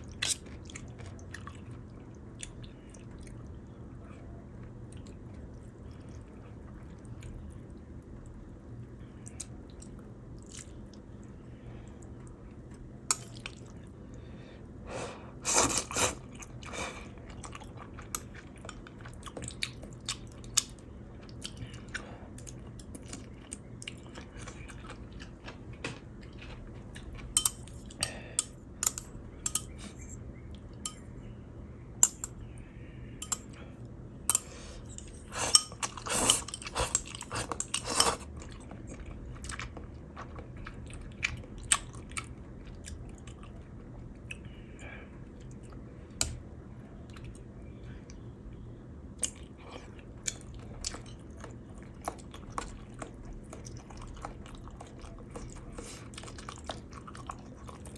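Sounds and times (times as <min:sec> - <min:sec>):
chewing and crunching food: 0:00.0 - 0:57.9.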